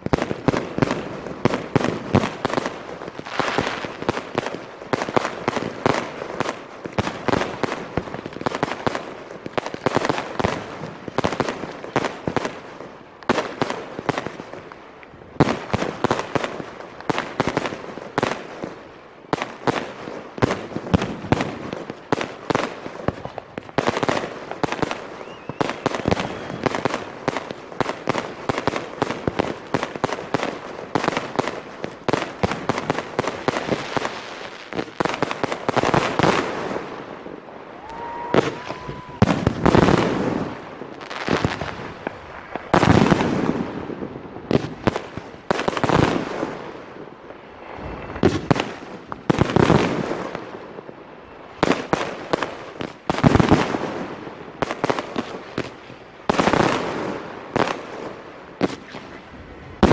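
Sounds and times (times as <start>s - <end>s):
fireworks bangs and pops: 0.0s - 59.9s
heavy firework bursts: 0.0s - 59.9s.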